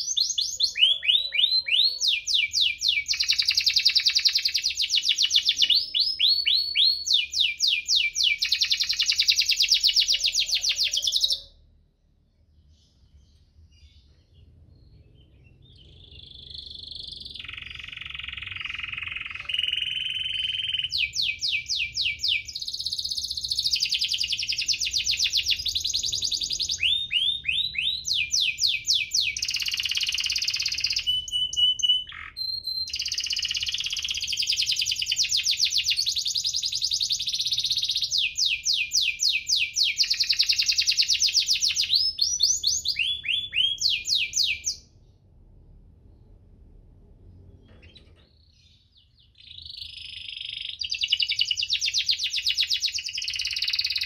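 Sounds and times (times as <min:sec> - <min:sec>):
canary singing trills: 0:00.0 - 0:11.8, 0:12.4 - 0:45.1, 0:47.4 - 0:54.0.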